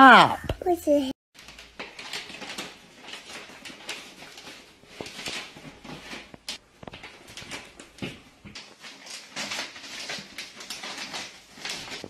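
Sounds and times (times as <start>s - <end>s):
wrapping paper rustling: 1.4s - 12.0s.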